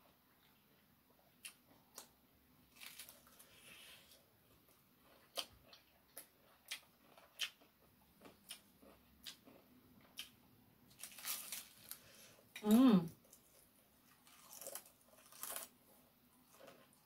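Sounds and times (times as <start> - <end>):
crunchy chewing: 2.7 - 17.0.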